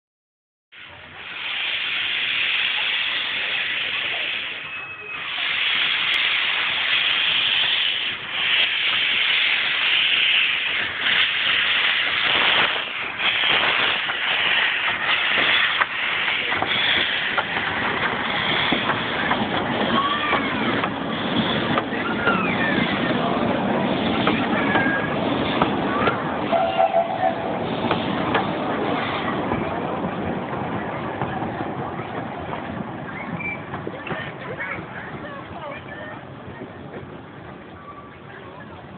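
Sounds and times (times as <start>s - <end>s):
steam locomotive hissing: 0.8s - 37.6s.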